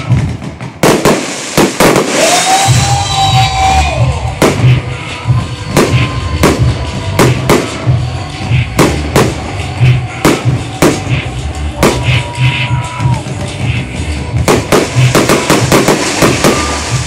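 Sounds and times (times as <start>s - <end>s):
fireworks bangs: 0.0s - 13.7s, 14.3s - 17.0s
loud music with pulsing bass: 1.9s - 17.0s.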